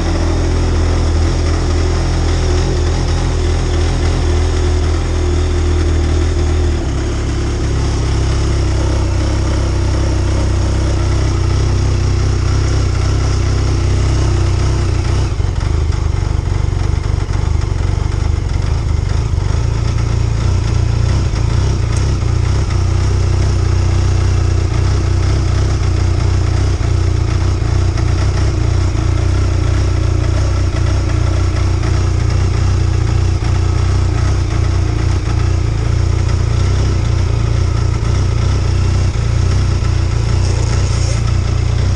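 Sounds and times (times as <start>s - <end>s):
snowmobile engine idling: 0.0s - 41.9s.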